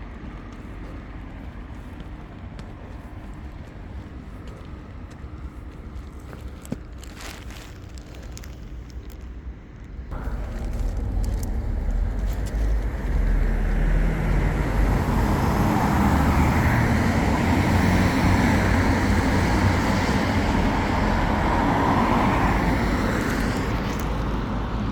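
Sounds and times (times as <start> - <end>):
traffic engine rumble: 0.0 - 24.9.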